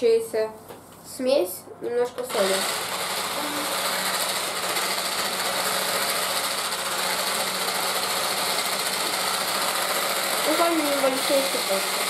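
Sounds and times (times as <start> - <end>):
electric hand mixer humming: 2.2 - 12.0.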